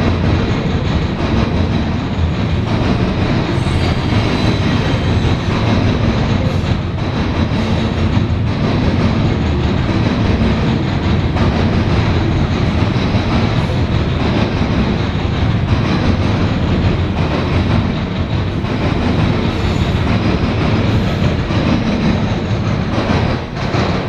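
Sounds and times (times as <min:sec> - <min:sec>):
freight train rumbling past: 0:00.0 - 0:24.0
wheels clattering over rails: 0:00.0 - 0:24.0.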